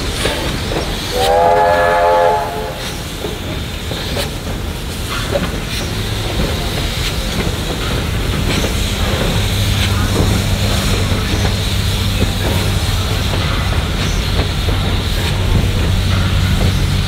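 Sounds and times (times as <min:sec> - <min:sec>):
hiss of steam: 0:00.0 - 0:17.0.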